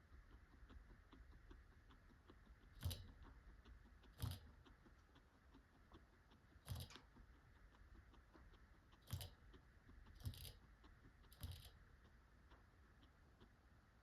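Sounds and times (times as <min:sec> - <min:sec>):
guinea pig crunching pellets: 0:00.0 - 0:14.0.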